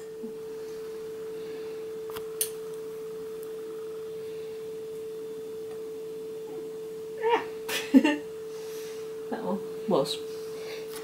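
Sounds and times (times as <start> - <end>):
steady pure tone hum: 0.0 - 11.0.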